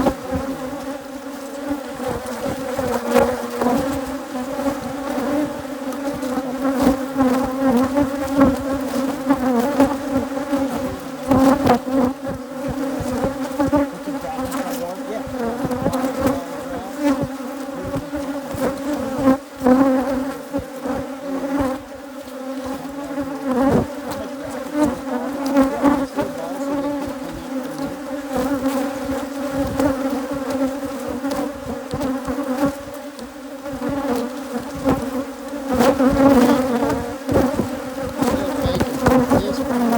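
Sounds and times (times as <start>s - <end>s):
bees buzzing: 0.0s - 39.9s
knocks and bumps from hive: 0.0s - 39.9s.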